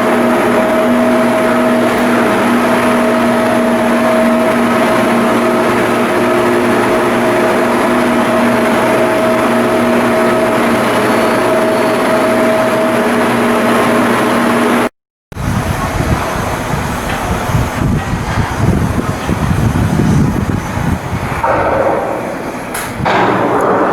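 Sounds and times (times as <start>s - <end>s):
machine humming: 0.0s - 23.9s
rough uneven mechanical noise: 0.0s - 23.9s.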